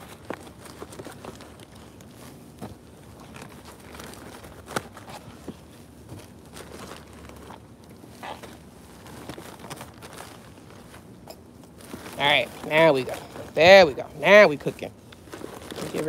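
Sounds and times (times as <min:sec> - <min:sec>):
plastic bags and paper rustling: 0:00.0 - 0:16.0.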